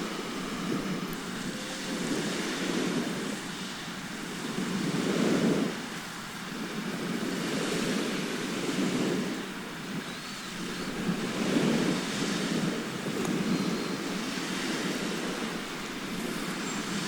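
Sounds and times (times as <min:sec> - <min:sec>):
sea surf washing onto shore: 0:00.0 - 0:17.0.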